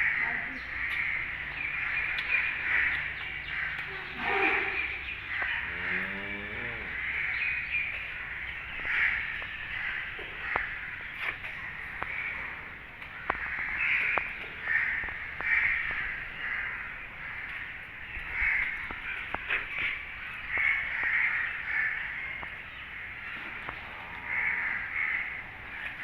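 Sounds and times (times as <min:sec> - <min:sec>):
birds cawing: 0:00.0 - 0:26.0.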